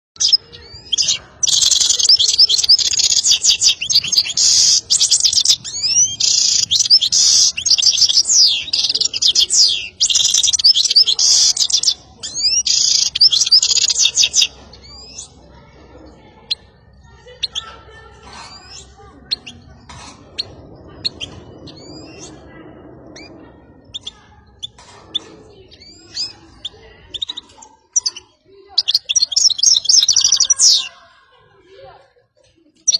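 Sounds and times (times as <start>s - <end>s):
finch twittering song: 0.2s - 15.5s, 16.4s - 22.4s, 23.0s - 30.9s.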